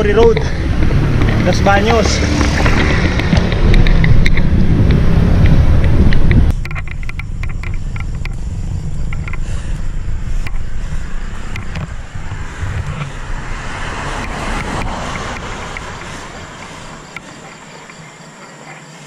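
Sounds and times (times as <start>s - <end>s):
wind buffeting microphone: 0.0s - 18.0s
bike tyres on asphalt: 0.0s - 19.0s.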